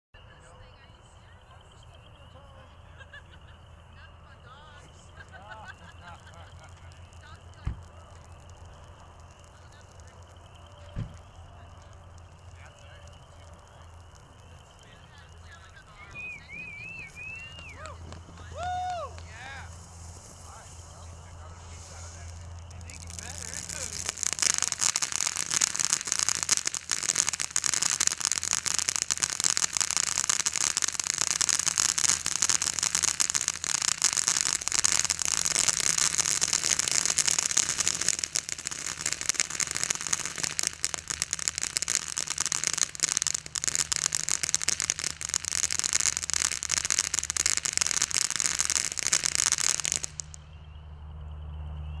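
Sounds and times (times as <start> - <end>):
firework fountain hissing and crackling: 0.2 - 50.6.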